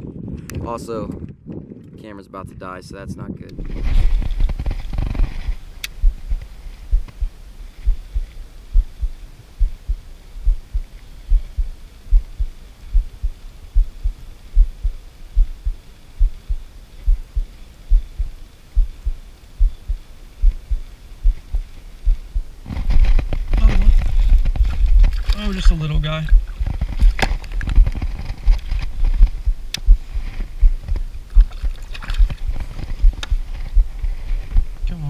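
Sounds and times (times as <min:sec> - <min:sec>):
low muffled thumps: 0:03.6 - 0:34.9.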